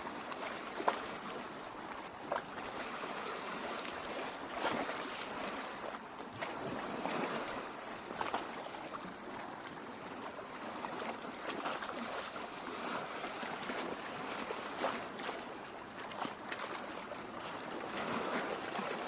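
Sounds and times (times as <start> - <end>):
lake water lapping at shore: 0.0 - 19.0.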